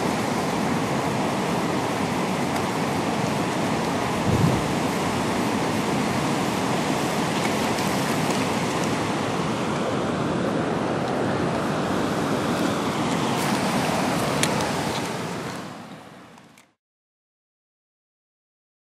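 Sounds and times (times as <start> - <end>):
whitewater rapids roaring: 0.0 - 16.6.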